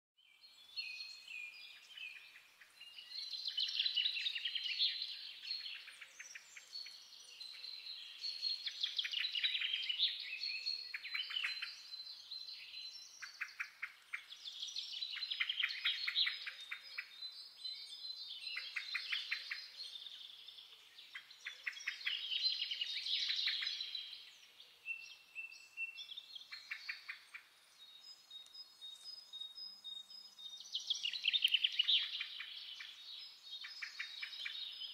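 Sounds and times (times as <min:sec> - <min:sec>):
finch twittering trills: 0:00.6 - 0:34.9.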